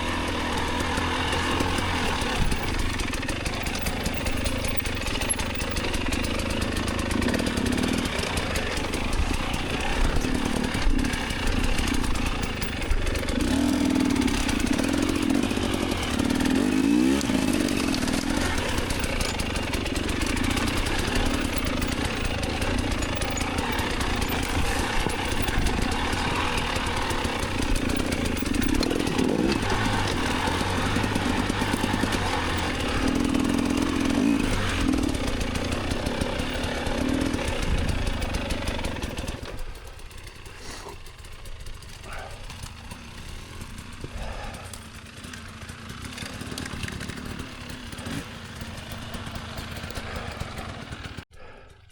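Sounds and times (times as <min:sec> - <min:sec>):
dirt bike engine revving: 0:00.0 - 0:51.7.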